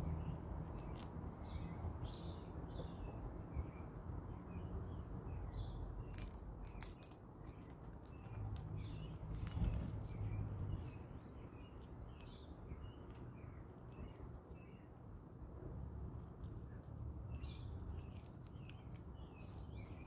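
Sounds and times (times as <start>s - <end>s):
small birds chirping: 0.0s - 15.3s, 16.1s - 20.0s.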